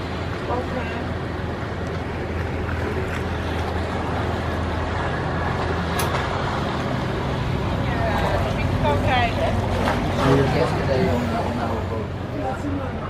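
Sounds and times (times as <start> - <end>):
boat engine hum: 0.0 - 13.0.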